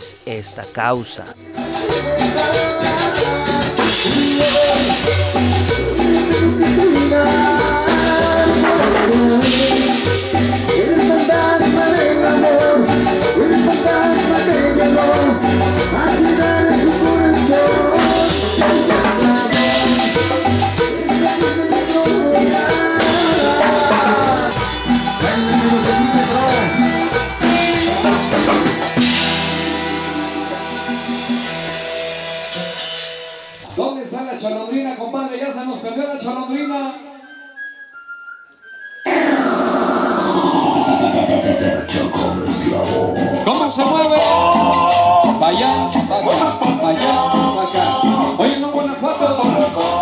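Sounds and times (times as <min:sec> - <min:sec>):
scraped metal guiro rhythm: 0:00.0 - 0:33.8, 0:39.4 - 0:50.0
live latin dance band: 0:00.0 - 0:50.0.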